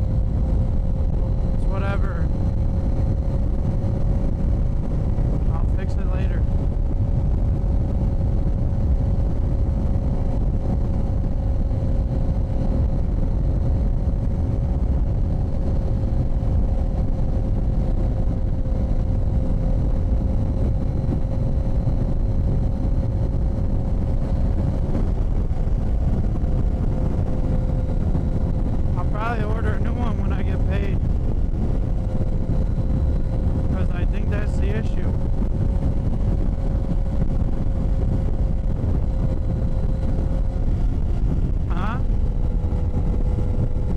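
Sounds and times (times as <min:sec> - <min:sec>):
engine humming: 0:00.0 - 0:43.9
wind rumble on microphone: 0:00.0 - 0:43.9.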